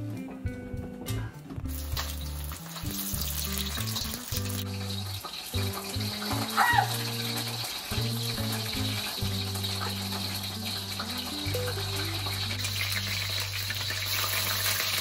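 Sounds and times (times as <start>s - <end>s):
background music with low bass: 0.0s - 15.0s
fish sizzling in hot oil: 1.7s - 15.0s.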